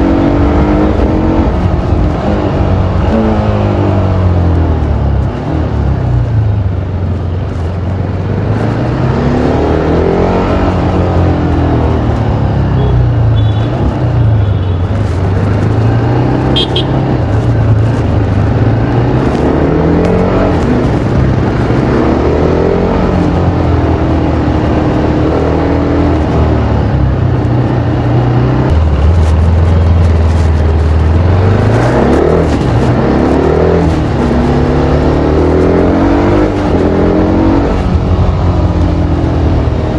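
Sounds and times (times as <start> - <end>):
motorcycle exhaust revving through gears: 0.0 - 39.9.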